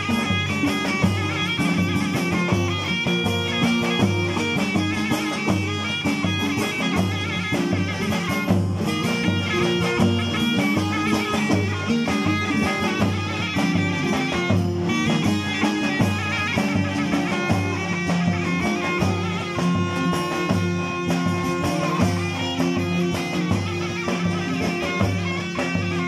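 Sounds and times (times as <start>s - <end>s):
strummed saz: 0.0s - 26.0s
zurna melody: 0.0s - 26.0s.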